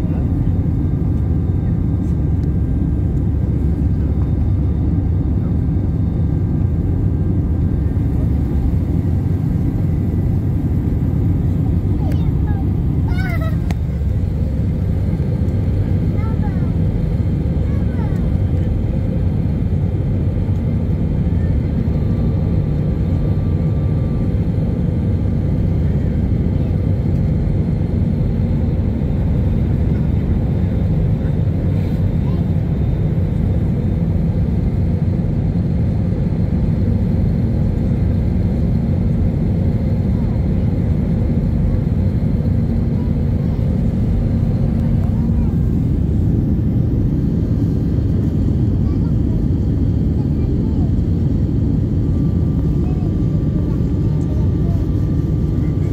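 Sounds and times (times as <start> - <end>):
airflow over fuselage: 0.0 - 55.9
airplane cabin engine rumble: 0.0 - 55.9.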